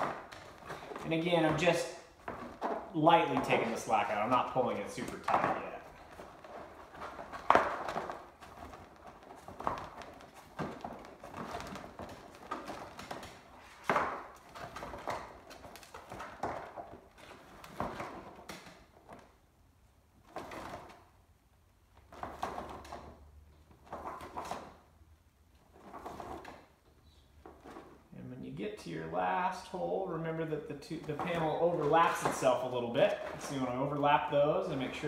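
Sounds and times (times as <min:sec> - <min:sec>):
stiff panel rustling: 0:00.0 - 0:19.5, 0:25.5 - 0:35.0.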